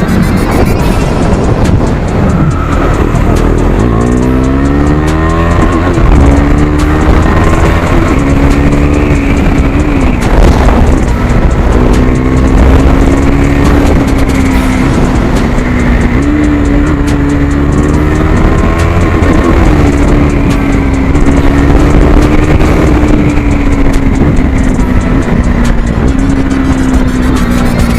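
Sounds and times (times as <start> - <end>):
motorcycle engine exhaust: 0.0 - 27.9.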